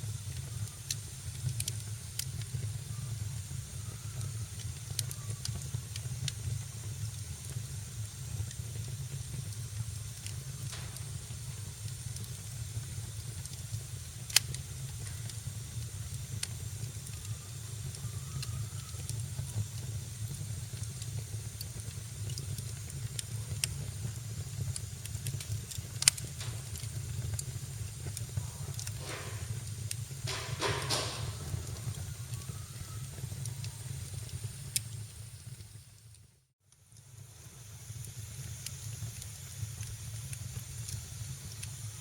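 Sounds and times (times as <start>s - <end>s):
fire crackles and pops: 0.0s - 42.0s
wood fire rumbling and hissing: 0.0s - 42.0s.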